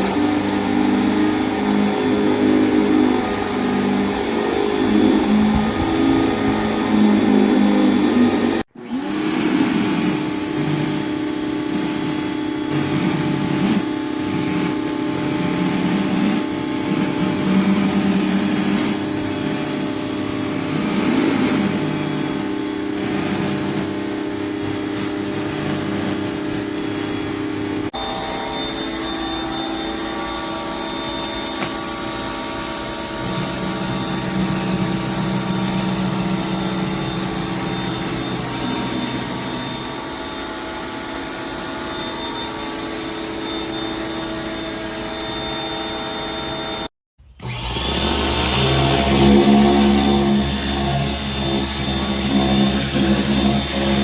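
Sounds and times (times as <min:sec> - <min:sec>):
pressure washer motor hum: 0:00.0 - 0:44.4, 0:47.2 - 0:54.0.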